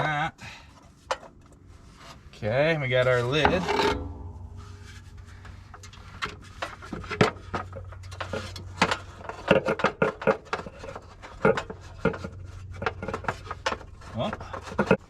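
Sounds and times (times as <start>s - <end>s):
metal lid clanks and scrapes: 0.8s - 15.0s.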